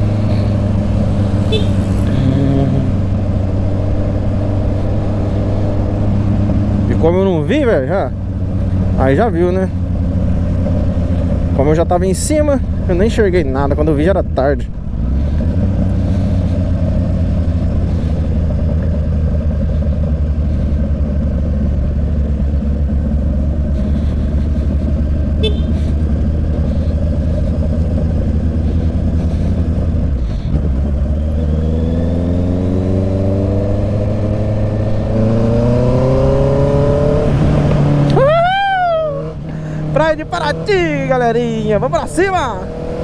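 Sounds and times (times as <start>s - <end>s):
motorcycle engine and exhaust: 0.0s - 43.0s.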